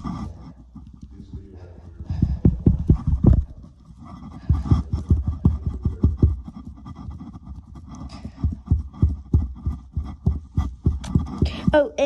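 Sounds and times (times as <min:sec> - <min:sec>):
marker scratching: 0:00.0 - 0:12.0.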